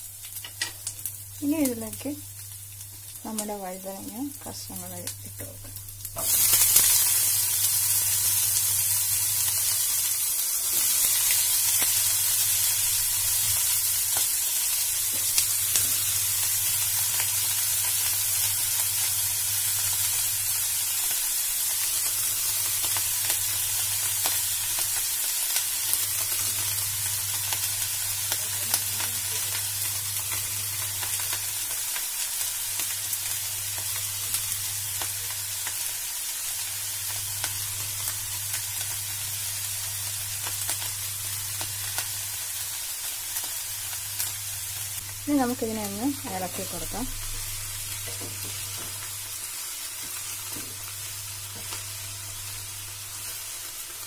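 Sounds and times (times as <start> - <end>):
eggplant sizzling in hot oil: 0.0 - 54.0.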